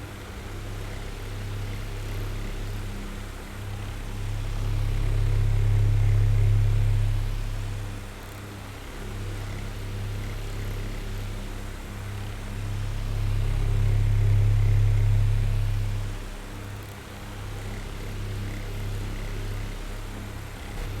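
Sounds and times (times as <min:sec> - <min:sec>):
electric fan motor hum: 0:00.0 - 0:21.0.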